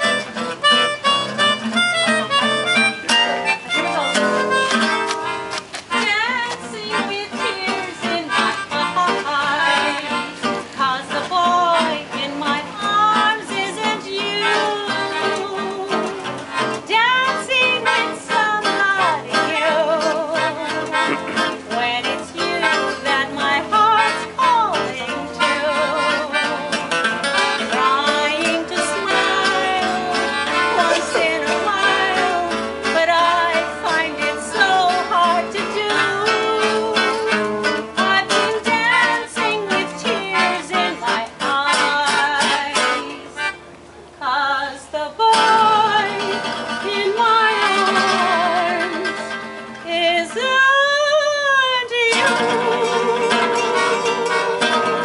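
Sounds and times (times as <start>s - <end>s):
instrumental accompaniment: 0.0s - 55.0s
person singing with vibrato: 2.4s - 43.6s, 44.2s - 55.0s.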